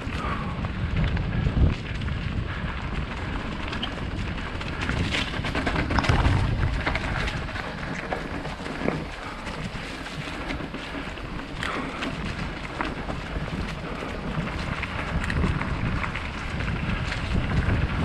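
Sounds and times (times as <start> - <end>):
bike rattling clicks: 0.0 - 18.0
tyre noise on dirt: 0.0 - 18.0
wind buffeting microphone: 0.0 - 18.0.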